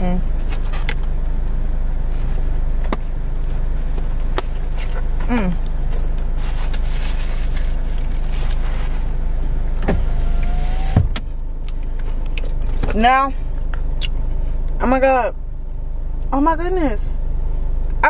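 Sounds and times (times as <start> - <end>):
car engine rumble inside car: 0.0 - 18.0.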